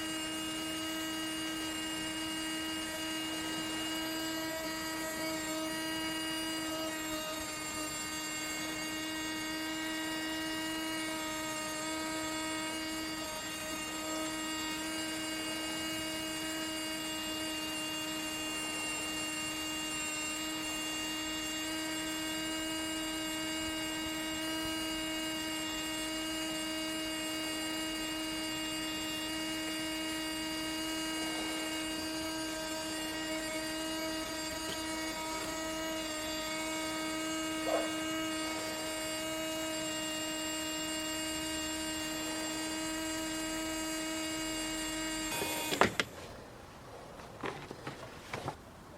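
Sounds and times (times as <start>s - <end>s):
electrical hum: 0.0s - 48.9s.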